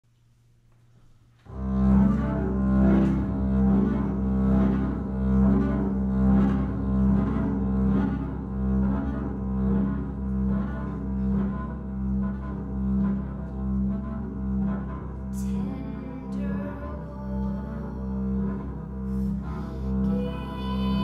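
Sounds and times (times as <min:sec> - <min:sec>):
bowed double bass: 0:01.4 - 0:21.0.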